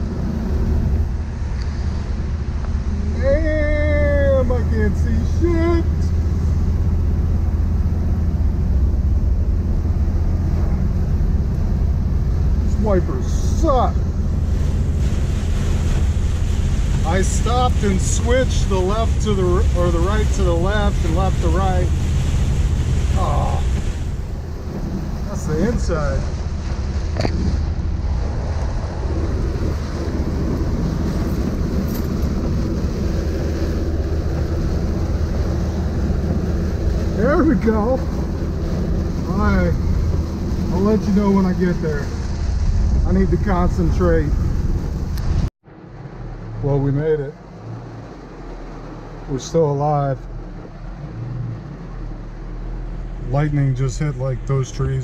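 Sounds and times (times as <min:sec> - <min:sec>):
car engine rumble: 0:00.0 - 0:55.0
road noise inside car: 0:00.0 - 0:55.0
wind: 0:00.0 - 0:55.0.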